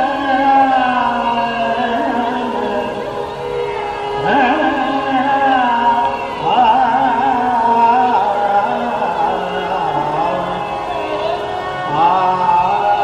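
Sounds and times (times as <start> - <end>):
man singing classical vocal: 0.0 - 13.0.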